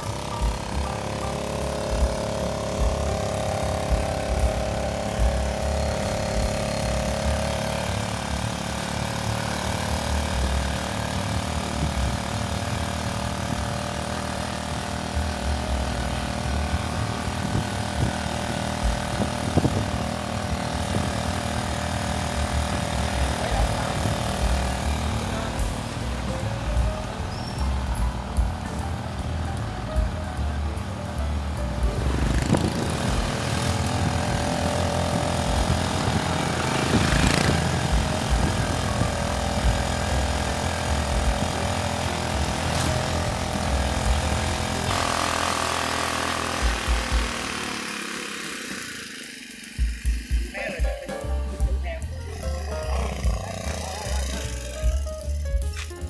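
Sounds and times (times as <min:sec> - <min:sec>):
diesel engine chugging: 0:00.0 - 0:56.0.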